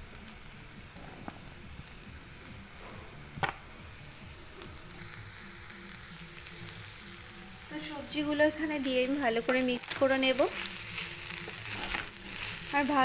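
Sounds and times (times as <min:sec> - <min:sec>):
vegetables pattering into pan: 0:00.0 - 0:03.8, 0:04.4 - 0:13.0.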